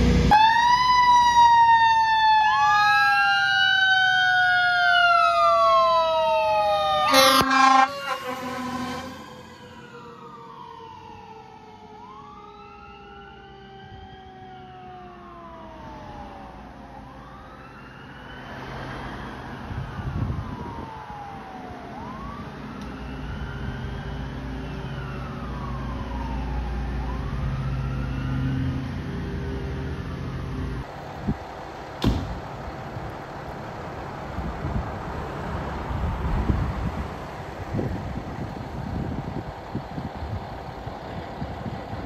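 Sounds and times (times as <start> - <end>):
fire engine siren wailing: 0.0 - 31.7, 33.5 - 42.0
passing cars: 0.0 - 42.0.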